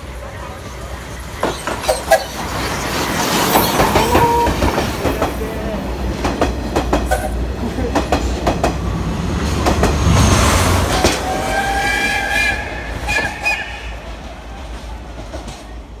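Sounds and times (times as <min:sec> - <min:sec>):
train coaches rolling past: 0:00.0 - 0:16.0.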